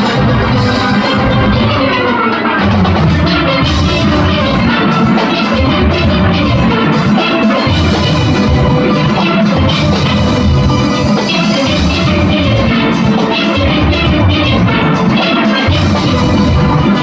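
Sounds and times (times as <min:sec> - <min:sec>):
drum kit and percussion: 0:00.0 - 0:17.0
steel pans playing melody: 0:00.0 - 0:17.0.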